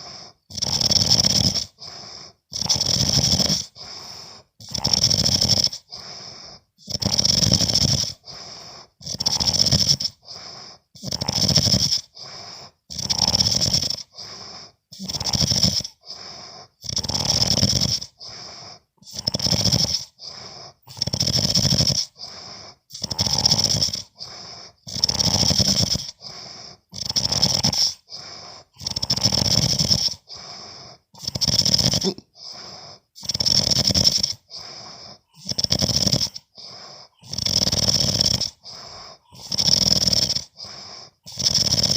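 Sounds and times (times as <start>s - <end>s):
man snoring loudly: 0.0s - 41.9s.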